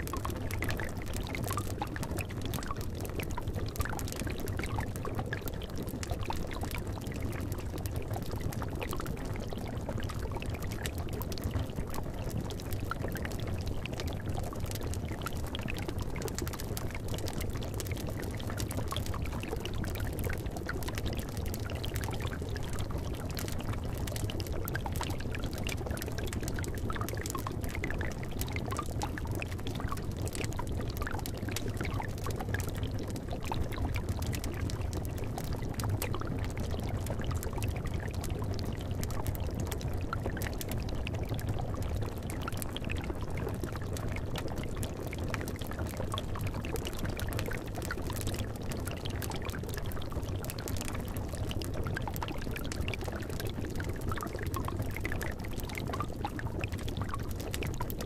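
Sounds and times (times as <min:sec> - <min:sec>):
liquid boiling and bubbling: 0:00.0 - 0:58.0.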